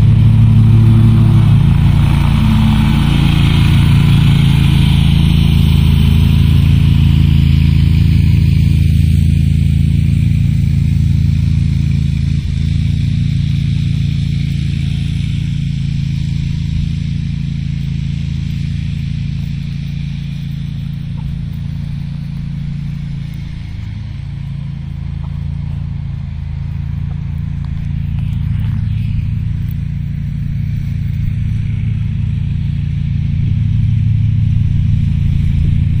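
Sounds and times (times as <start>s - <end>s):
engine running: 0.0s - 36.0s.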